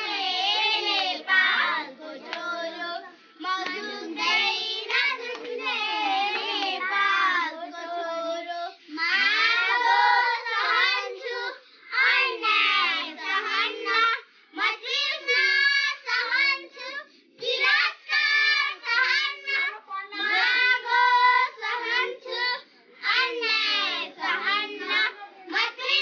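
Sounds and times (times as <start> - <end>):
girls singing together: 0.0 - 26.0.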